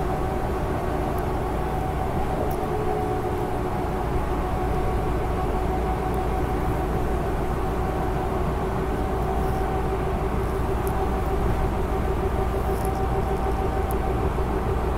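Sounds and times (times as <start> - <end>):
engine hum: 0.0 - 14.9.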